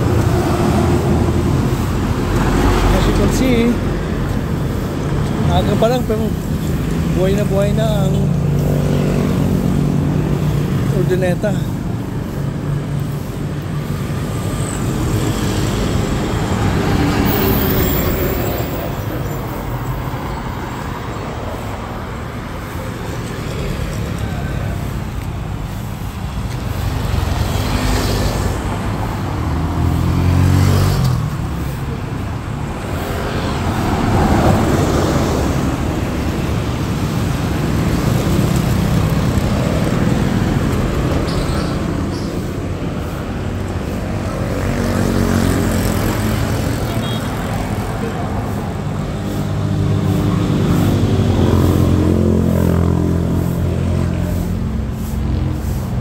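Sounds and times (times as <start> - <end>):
vehicles passing by: 0.0 - 56.0.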